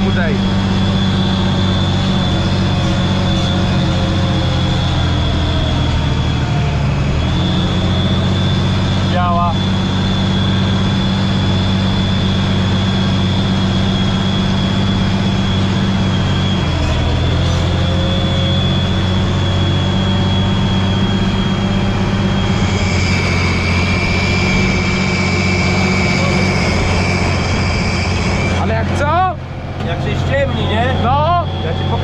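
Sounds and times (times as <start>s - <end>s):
high whine: 0.0s - 32.0s
tractor diesel engine drone: 0.0s - 32.0s.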